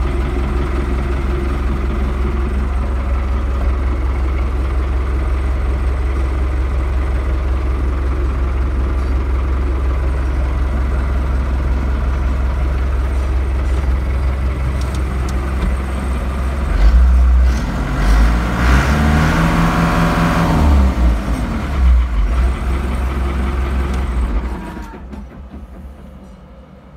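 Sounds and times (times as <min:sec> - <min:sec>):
tractor diesel engine revving: 0:00.0 - 0:25.8.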